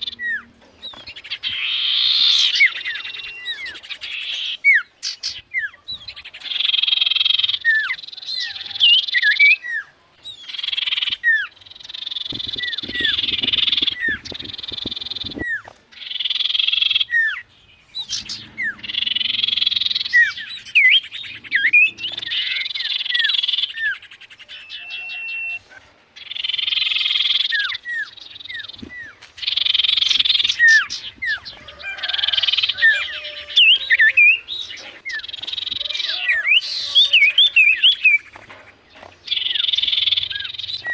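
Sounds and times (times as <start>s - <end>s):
bird buzzy chattering song: 0.0s - 40.9s.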